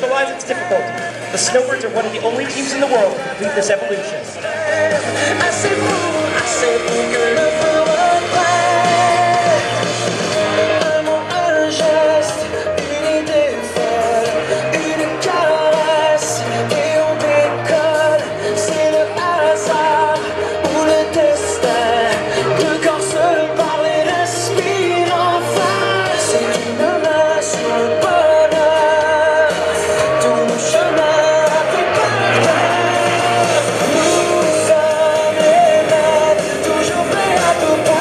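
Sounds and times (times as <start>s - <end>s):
pop music with singing: 0.0s - 38.0s.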